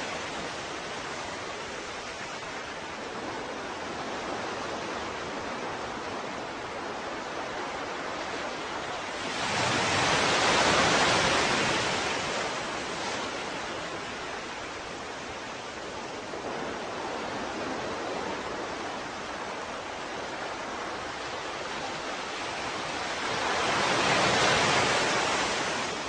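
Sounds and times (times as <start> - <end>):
ocean surf washing: 0.0 - 26.0.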